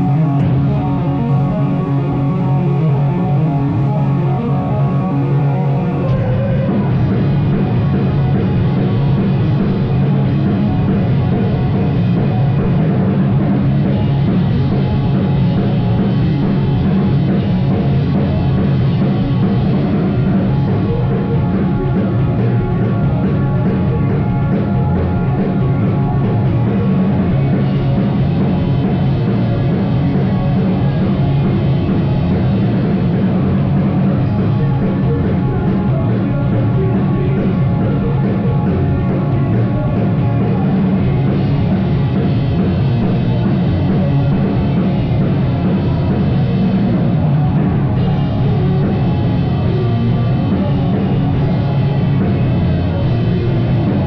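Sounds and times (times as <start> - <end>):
distorted guitars: 0.0 - 54.0
drum kit: 0.0 - 54.0
live rock band playing: 0.0 - 54.0.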